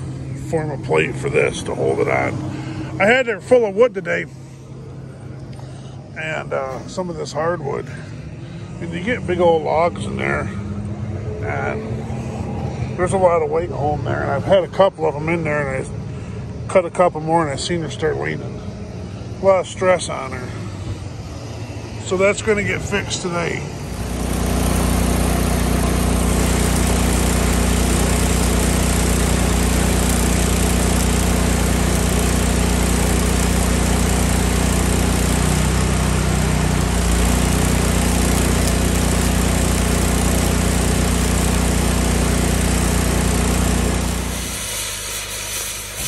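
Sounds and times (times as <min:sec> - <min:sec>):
engine running at raised speed: 0:00.0 - 0:06.8, 0:07.8 - 0:46.0.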